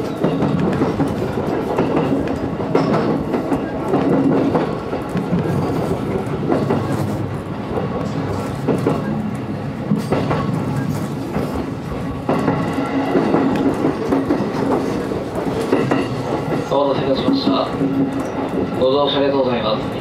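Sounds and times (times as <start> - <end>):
train wheels rumbling on rail: 0.0 - 20.0
wheels clacking over rail joints: 0.0 - 20.0.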